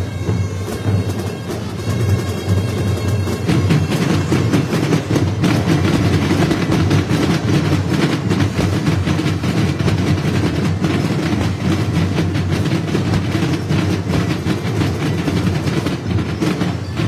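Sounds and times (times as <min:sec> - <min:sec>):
marching field drums: 0:00.0 - 0:17.0.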